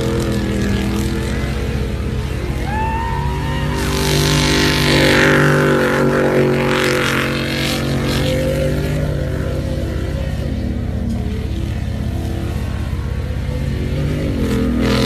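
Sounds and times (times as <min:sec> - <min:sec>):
pickup truck engine running: 0:00.0 - 0:15.0.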